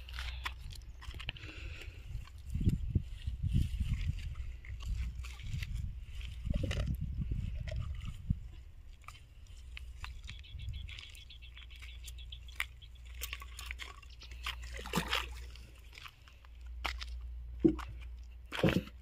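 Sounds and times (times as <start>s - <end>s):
water sloshing and splashing: 2.0s - 19.0s.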